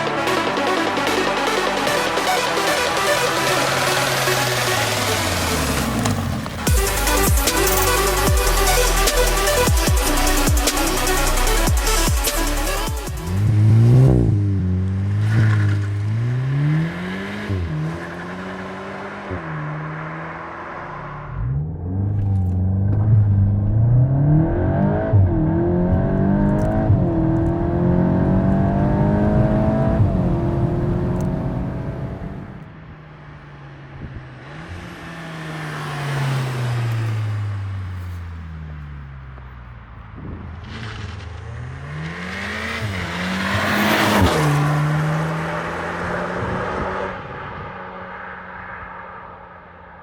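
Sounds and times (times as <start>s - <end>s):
car engine revving: 0.0s - 32.7s, 39.9s - 49.5s.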